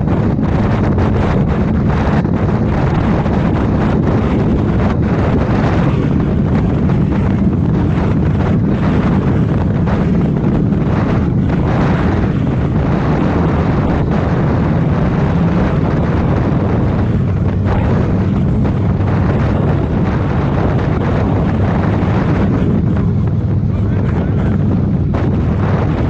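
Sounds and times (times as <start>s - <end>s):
motorcycle engine running: 0.0s - 26.0s
wind on microphone: 0.0s - 26.0s.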